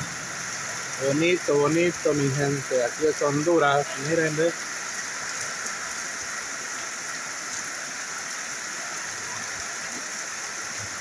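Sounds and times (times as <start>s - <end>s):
rain pouring: 0.0s - 11.0s.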